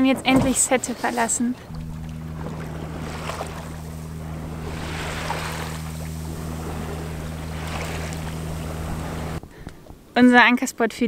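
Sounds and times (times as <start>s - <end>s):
water rushing past hull: 0.0s - 9.4s
steady low hum: 0.0s - 10.2s.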